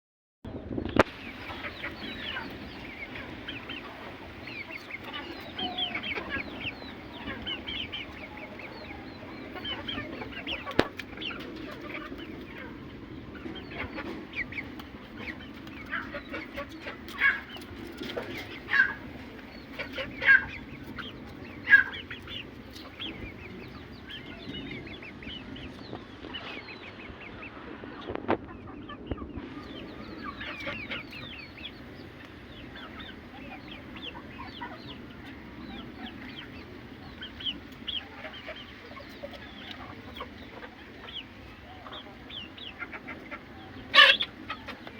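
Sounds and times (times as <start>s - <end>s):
chickens clucking: 0.8s - 44.9s
loud chicken calls: 1.1s - 24.2s, 28.9s - 44.9s.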